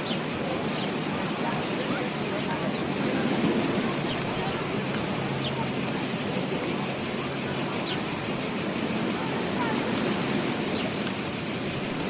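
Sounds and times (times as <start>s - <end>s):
beach surf: 0.0s - 12.0s
insects trilling: 0.0s - 12.0s.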